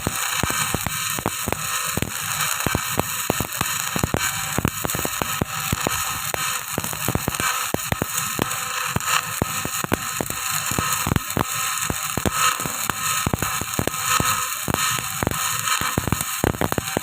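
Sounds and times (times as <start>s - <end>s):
electric arc welding crackling: 0.0s - 17.0s.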